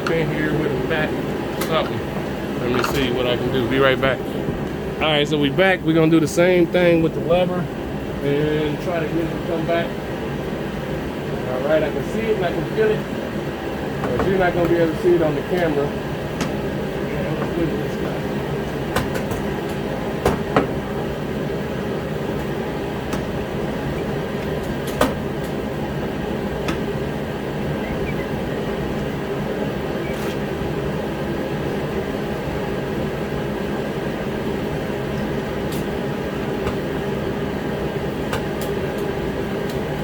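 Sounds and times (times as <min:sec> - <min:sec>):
heater droning hum: 0:00.0 - 0:40.0.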